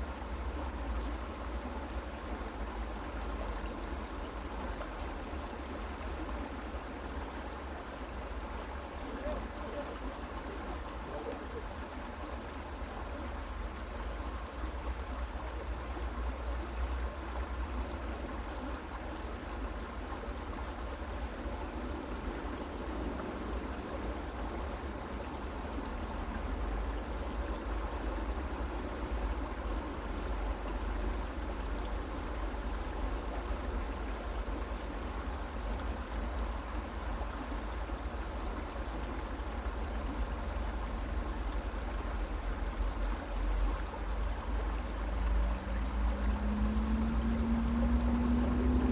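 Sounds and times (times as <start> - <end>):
creek water babbling: 0.0 - 48.9.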